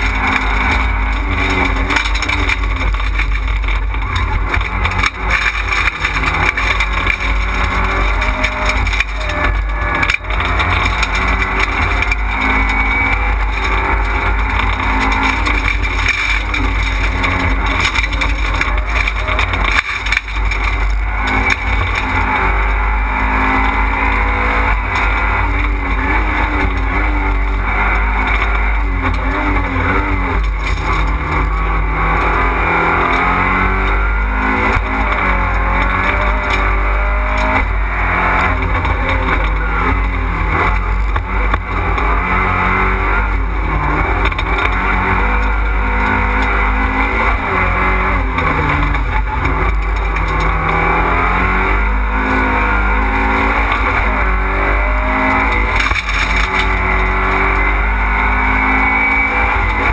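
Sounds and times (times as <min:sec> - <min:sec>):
rally car engine accelerating: 0:00.0 - 0:59.9.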